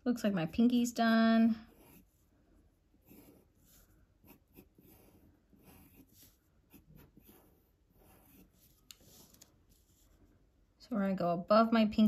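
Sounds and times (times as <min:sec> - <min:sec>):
pencil scratching on paper: 0:00.3 - 0:10.3.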